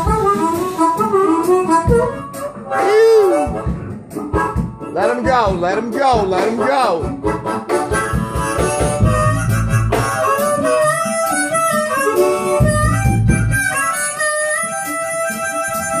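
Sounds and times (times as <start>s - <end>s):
harmonica bending notes: 0.0s - 16.0s
live reggae band: 0.0s - 16.0s.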